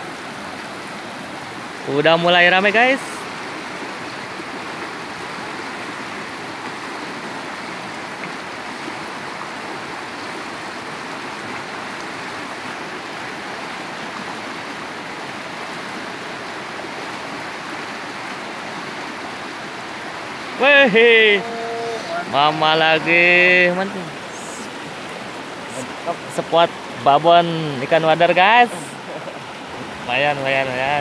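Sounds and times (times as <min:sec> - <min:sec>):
stream rushing: 0:00.0 - 0:31.0.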